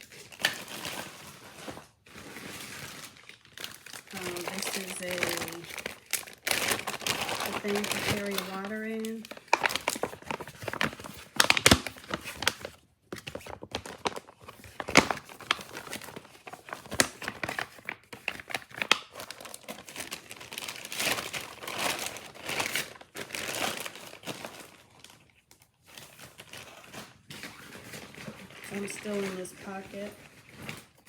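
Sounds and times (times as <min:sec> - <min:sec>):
plastic crinkling and rustling: 0:00.0 - 0:31.0.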